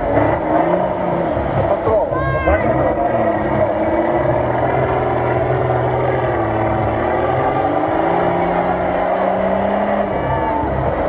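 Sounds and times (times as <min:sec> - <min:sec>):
truck engine working hard: 0:00.0 - 0:11.0.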